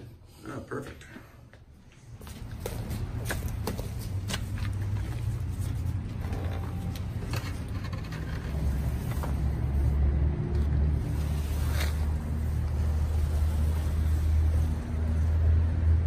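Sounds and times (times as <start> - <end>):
engine droning: 2.3 - 16.0.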